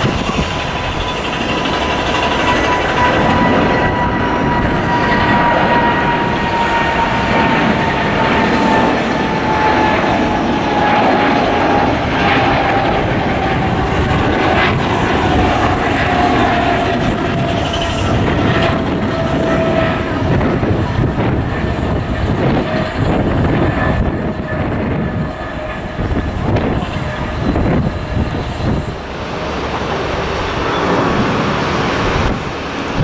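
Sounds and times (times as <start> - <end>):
high engine whine: 0.0 - 33.0
jet engines roaring: 0.0 - 33.0.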